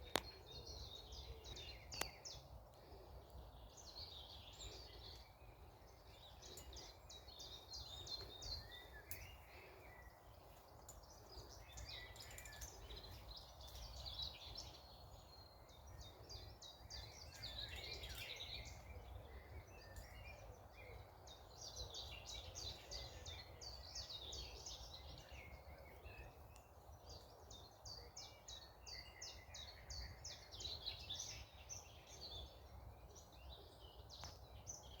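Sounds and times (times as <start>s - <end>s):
songbirds chirping and trilling: 0.0s - 35.0s.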